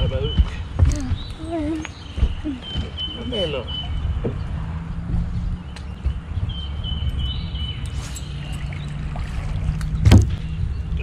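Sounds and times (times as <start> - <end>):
water noise: 0.0 - 11.0.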